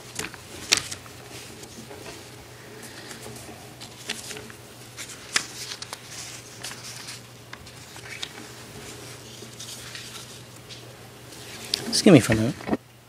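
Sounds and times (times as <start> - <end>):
papers rustling: 0.0 - 12.8
steady low hum: 0.0 - 13.0.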